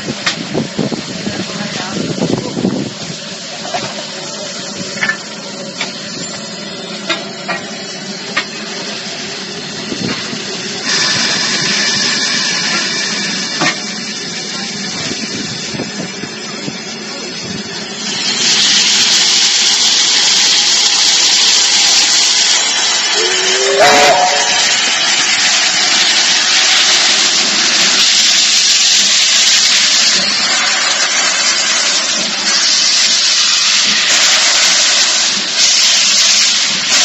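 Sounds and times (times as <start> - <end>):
steam locomotive hissing steam: 0.0 - 37.0.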